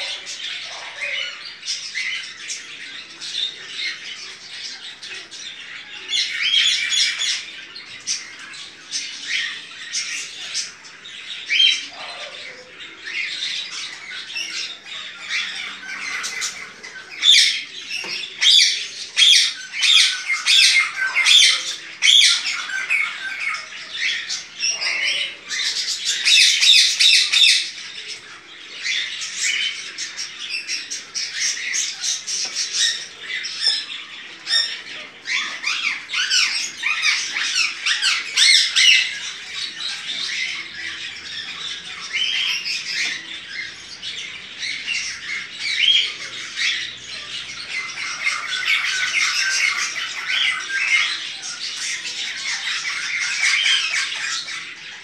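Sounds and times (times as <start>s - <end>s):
blackbirds chattering calls: 0.0s - 55.0s.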